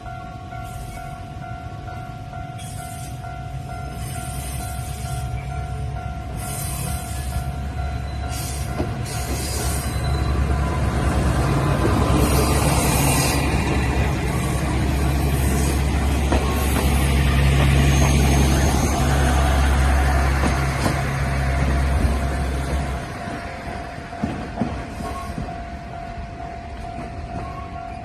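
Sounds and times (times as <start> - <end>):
diesel railcar engine drone: 0.0 - 28.0.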